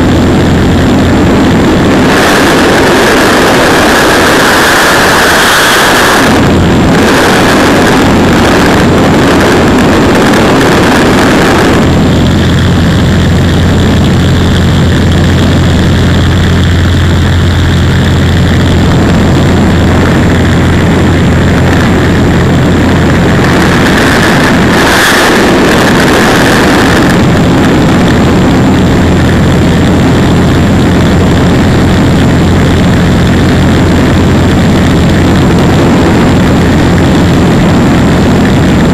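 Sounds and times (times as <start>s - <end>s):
propeller airplane engine droning: 0.0s - 38.9s.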